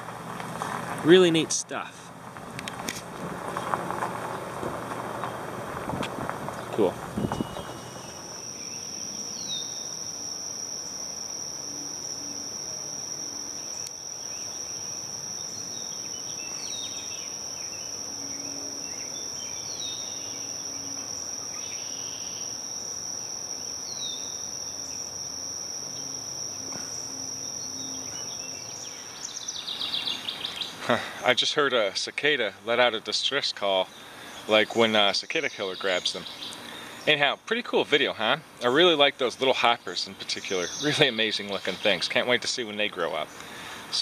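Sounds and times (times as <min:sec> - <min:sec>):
high-pitched insect trill: 0:00.0 - 0:44.0.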